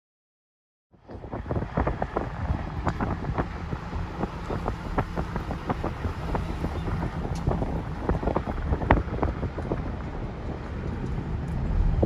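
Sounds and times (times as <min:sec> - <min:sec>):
wind on microphone: 0:01.0 - 0:12.0.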